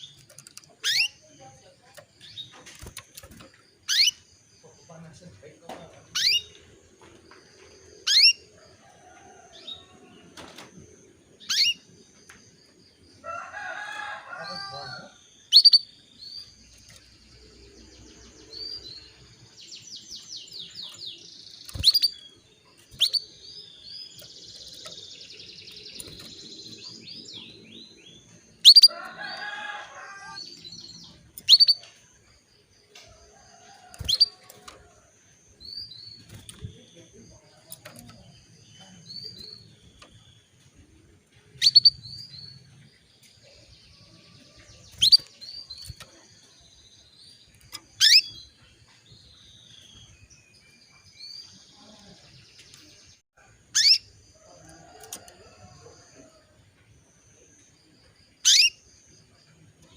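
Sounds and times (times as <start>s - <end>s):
canary chirps and trills: 0.0s - 59.9s.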